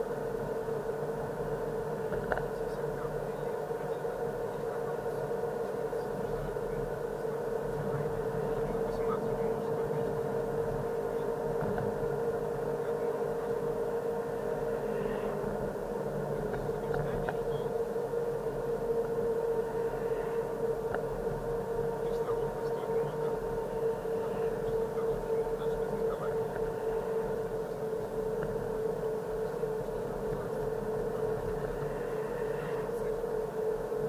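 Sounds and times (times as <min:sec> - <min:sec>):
car interior drive noise: 0:00.0 - 0:34.0.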